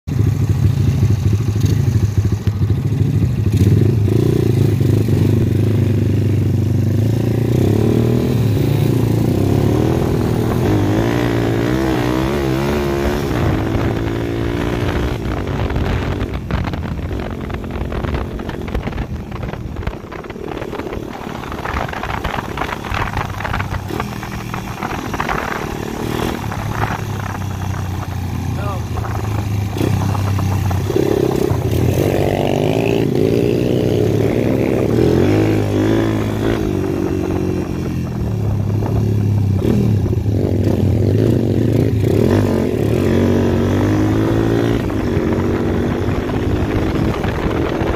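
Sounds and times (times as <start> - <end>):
dirt bike engine running: 0.1 - 47.9
bike rattling over bumps: 8.7 - 47.9.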